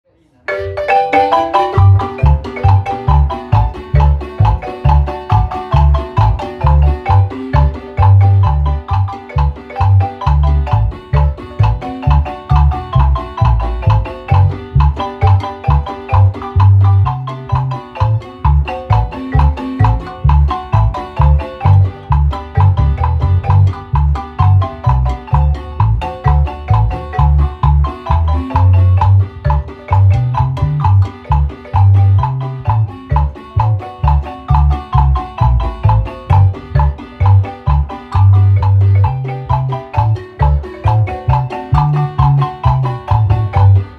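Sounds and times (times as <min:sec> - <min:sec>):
marimba playing lively tune: 0:00.4 - 0:43.9
deep bass line: 0:01.8 - 0:43.9.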